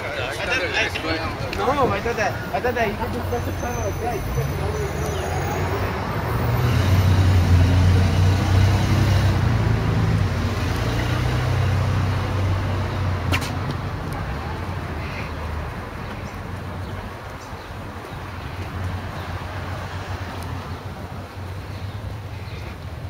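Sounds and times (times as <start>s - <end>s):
vehicle engine rumble: 0.7s - 23.0s.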